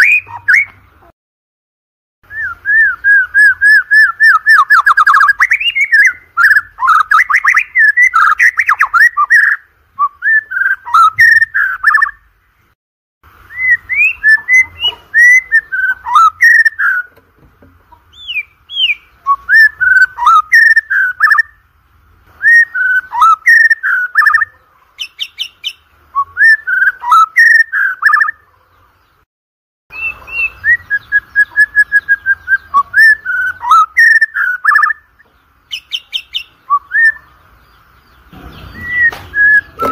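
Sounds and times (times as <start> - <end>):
bird singing whistled phrases: 0.0 - 0.8, 2.3 - 12.2, 13.5 - 17.1, 18.1 - 21.6, 22.4 - 28.4, 29.9 - 35.1, 35.7 - 37.4, 38.4 - 39.9.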